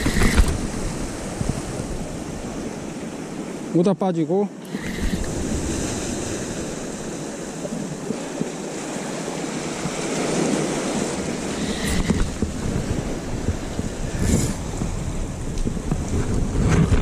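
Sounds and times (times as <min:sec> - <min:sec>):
wind buffeting microphone: 0:00.0 - 0:03.7, 0:04.7 - 0:17.0
waves washing against rocks: 0:00.0 - 0:03.8, 0:04.6 - 0:17.0.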